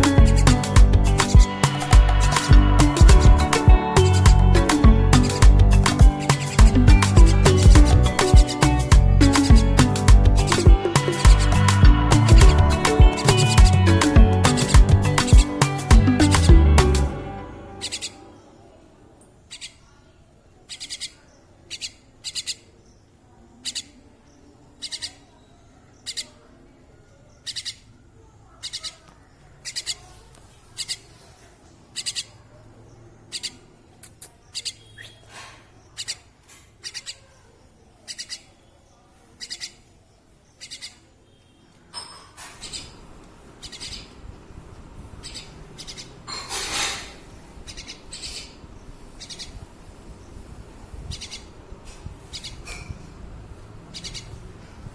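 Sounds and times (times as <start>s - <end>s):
small bird chirping: 0.0s - 16.6s, 17.8s - 18.7s, 19.4s - 44.4s, 45.0s - 53.1s, 53.8s - 54.6s
background noise: 0.0s - 54.9s.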